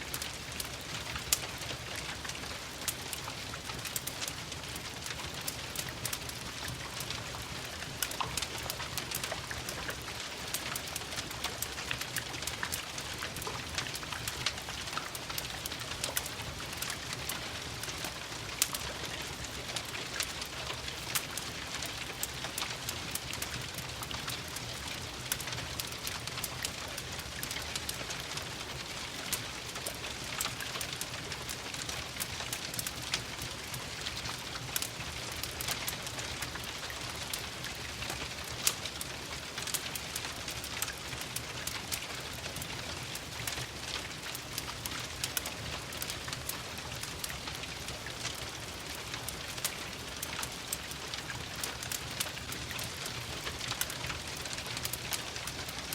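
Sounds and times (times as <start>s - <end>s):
fireplace crackling and popping: 0.0s - 55.9s
rain pattering on windows: 0.0s - 55.9s.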